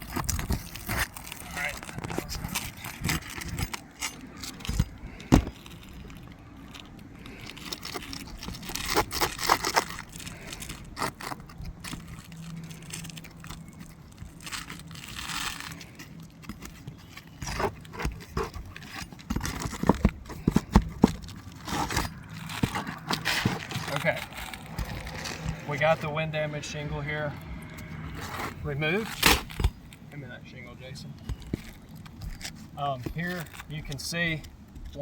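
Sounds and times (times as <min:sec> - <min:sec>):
shingles scraping and crackling: 0:00.0 - 0:35.0.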